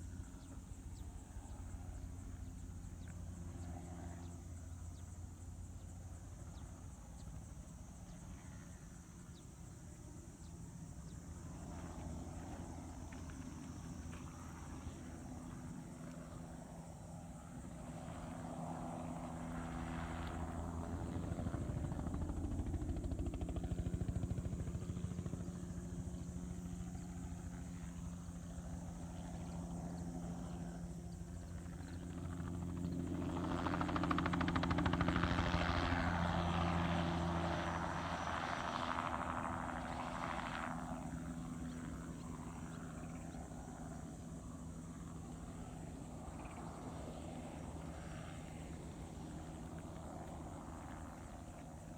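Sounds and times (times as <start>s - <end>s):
helicopter flying past: 0.0s - 51.9s.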